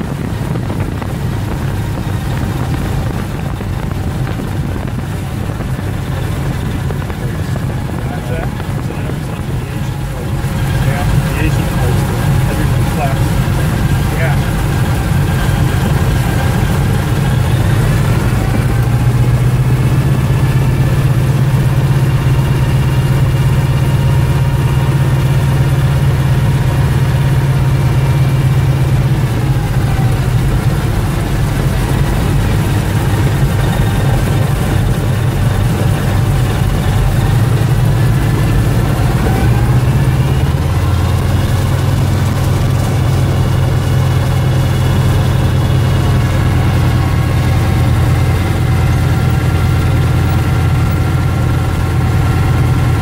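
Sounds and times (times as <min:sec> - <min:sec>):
plane engines droning: 0:00.0 - 0:53.0.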